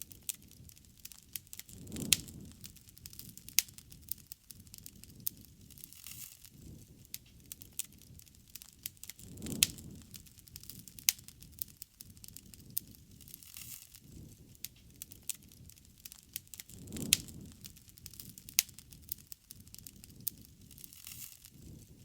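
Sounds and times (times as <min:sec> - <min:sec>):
low rumble of flame: 0:00.0 - 0:22.0
wood fire crackling and popping: 0:00.0 - 0:22.0.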